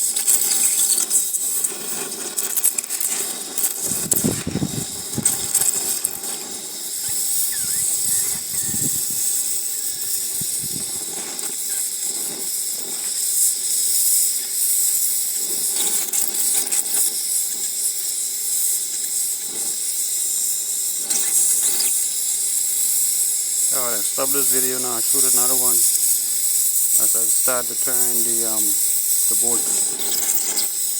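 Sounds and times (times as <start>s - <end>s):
torch flame hissing: 0.0s - 30.9s.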